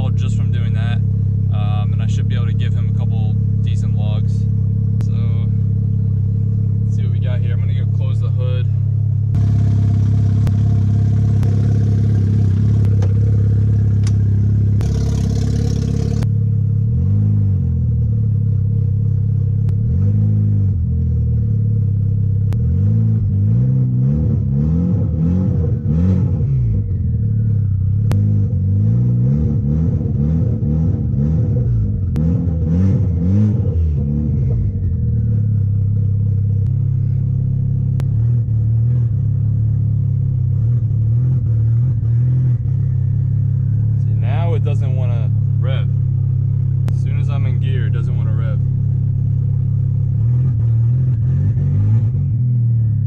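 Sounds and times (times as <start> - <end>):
car engine idling: 0.0 - 22.9, 26.6 - 28.9, 30.2 - 53.0
car engine revving: 0.0 - 53.0.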